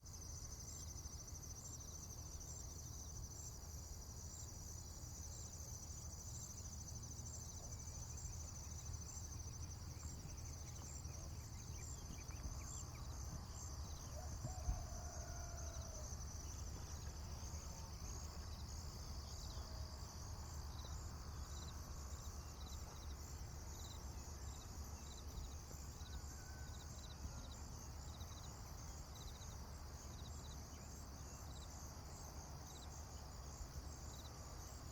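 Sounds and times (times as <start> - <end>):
crickets and insects chirping: 0.0 - 34.9.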